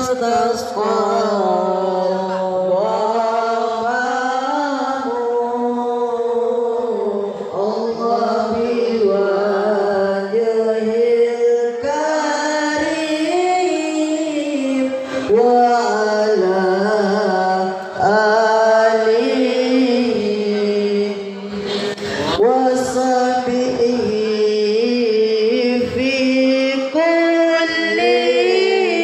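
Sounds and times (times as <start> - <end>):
person singing long held notes: 0.0 - 29.0.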